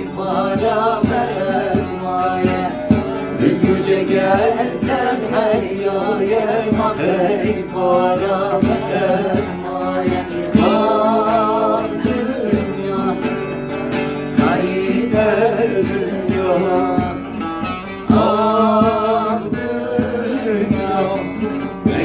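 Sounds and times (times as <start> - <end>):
long-necked lute plucked quickly: 0.0 - 22.0
voices singing folk song in unison: 0.0 - 22.0.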